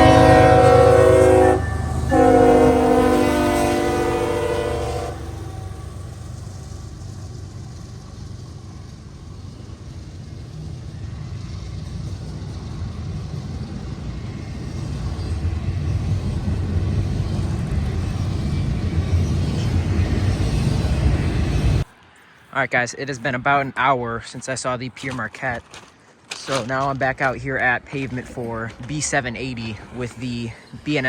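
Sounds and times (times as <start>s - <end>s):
freight train rumble: 0.0s - 31.0s.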